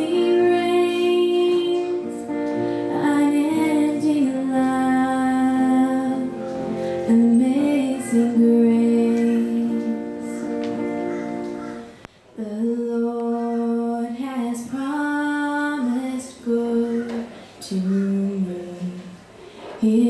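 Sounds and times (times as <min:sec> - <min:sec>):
woman singing a slow hymn: 0:00.0 - 0:10.7, 0:12.4 - 0:20.0
acoustic guitar: 0:00.0 - 0:20.0.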